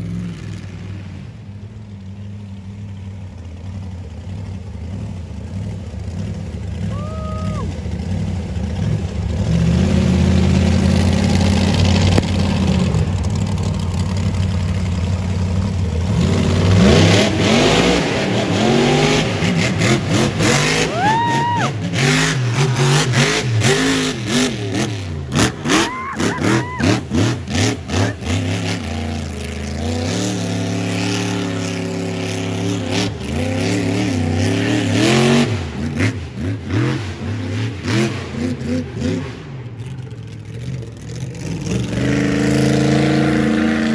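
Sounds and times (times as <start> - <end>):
monster truck engine revving: 4.8 - 43.9.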